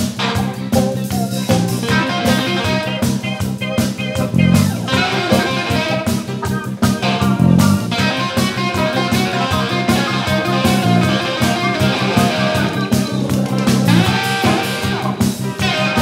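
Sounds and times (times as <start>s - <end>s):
bass guitar: 0.0s - 16.0s
drum beat: 0.0s - 16.0s
electric guitar: 0.0s - 16.0s.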